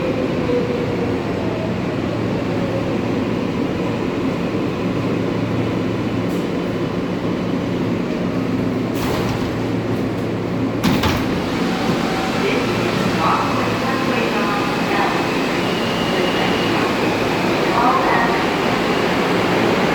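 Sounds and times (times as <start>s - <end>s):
subway car humming: 0.0s - 19.9s.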